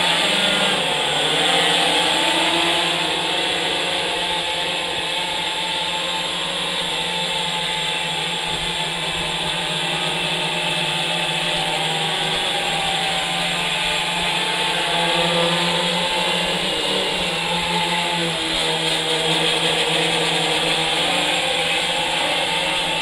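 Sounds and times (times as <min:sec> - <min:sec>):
quadcopter motors buzzing: 0:00.0 - 0:23.0.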